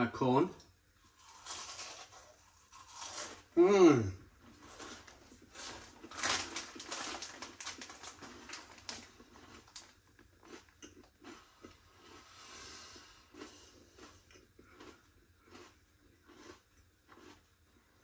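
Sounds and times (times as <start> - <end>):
chewing crunchy snack: 1.0 - 3.5, 4.4 - 18.0.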